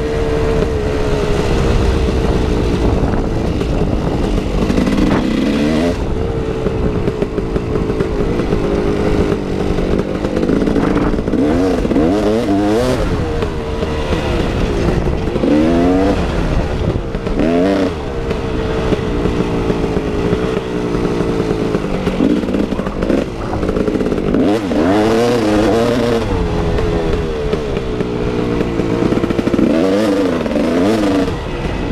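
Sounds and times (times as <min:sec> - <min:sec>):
dirt bike engine revving: 0:00.0 - 0:31.9.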